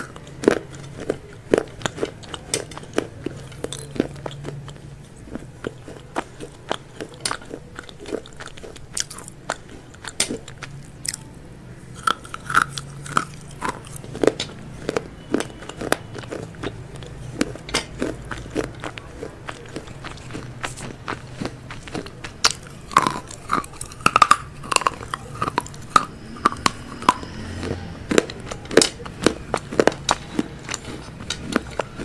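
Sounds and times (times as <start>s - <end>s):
chewing: 0.0s - 32.0s
crunching fried chicken: 0.0s - 32.0s.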